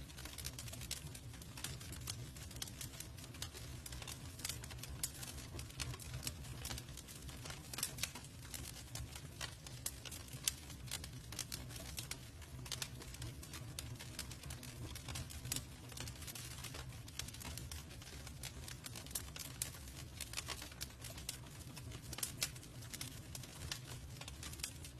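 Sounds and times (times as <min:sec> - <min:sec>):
campfire crackles and pops: 0:00.0 - 0:24.9
fire low rumble: 0:00.0 - 0:24.9.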